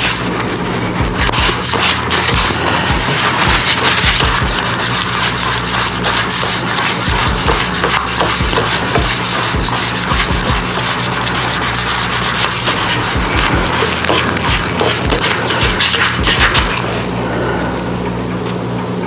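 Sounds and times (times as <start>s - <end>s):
gritty sandpaper scratching: 0.0s - 17.0s.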